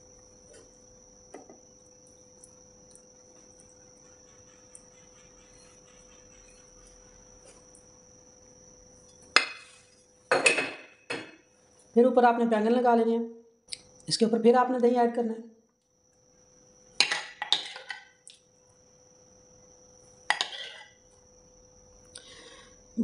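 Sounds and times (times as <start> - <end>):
faint steady high whine: 0.0 - 23.0.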